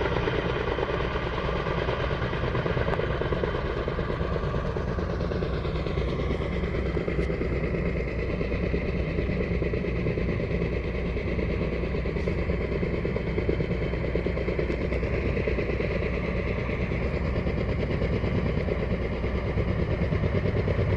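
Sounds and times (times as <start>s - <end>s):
helicopter engine and rotor: 0.0s - 20.9s.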